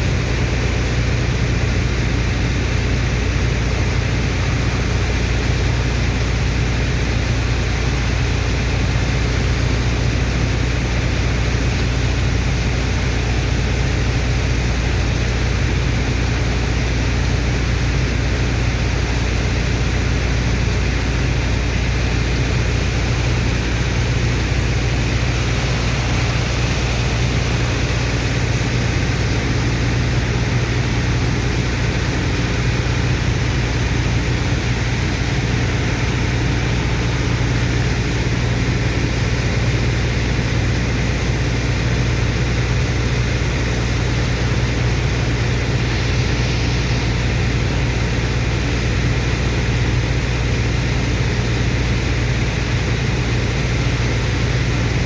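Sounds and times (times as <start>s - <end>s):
heavy engine droning: 0.0s - 55.0s
water pump rushing hiss: 0.1s - 55.0s.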